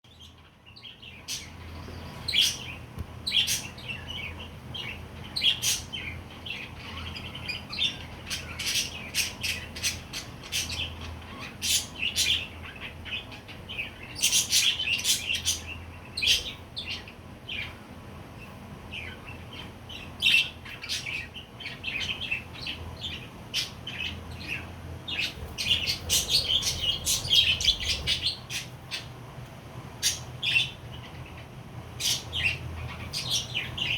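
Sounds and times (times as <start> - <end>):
budgerigars chirping and chattering: 0.1 - 29.2, 30.0 - 33.9.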